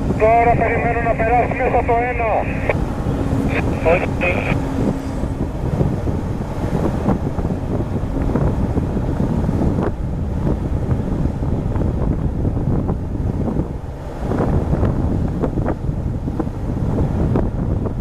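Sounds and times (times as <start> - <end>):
sea washing: 0.0 - 17.4
wind buffeting microphone: 0.0 - 18.0.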